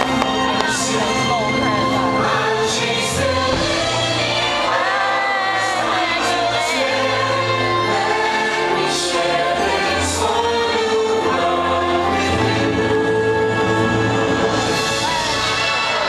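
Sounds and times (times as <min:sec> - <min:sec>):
soundtrack music with choir: 0:00.0 - 0:16.0.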